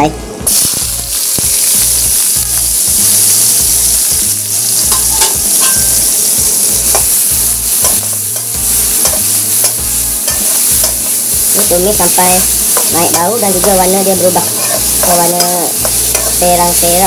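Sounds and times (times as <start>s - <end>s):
aromatics sizzling in oil: 0.5s - 17.0s.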